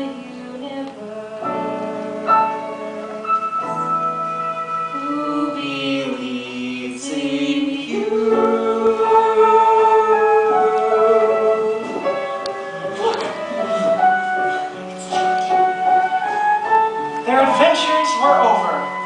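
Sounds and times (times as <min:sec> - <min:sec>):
instrumental accompaniment: 0:00.0 - 0:19.0
voices singing sustained notes: 0:00.0 - 0:19.0.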